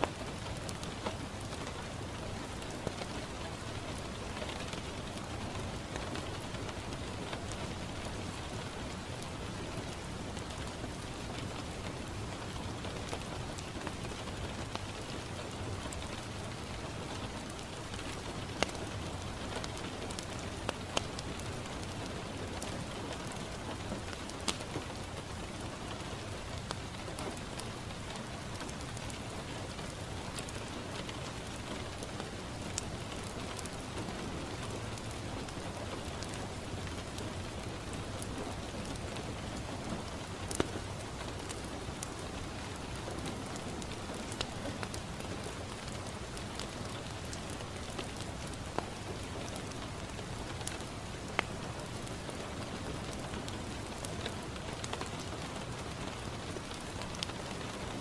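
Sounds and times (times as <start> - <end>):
rain pattering on a window: 0.0 - 58.0
wood fire crackling and popping: 0.0 - 58.0.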